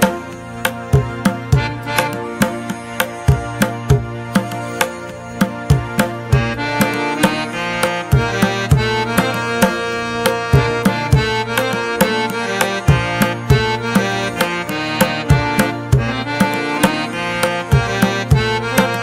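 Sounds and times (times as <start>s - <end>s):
instrumental music with drum beat: 0.0s - 19.0s.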